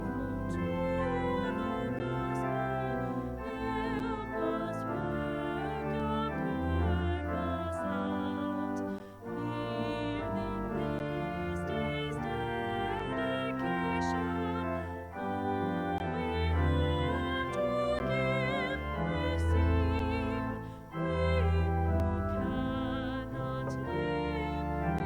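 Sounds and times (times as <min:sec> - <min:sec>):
slow worship music chords: 0:00.0 - 0:25.0.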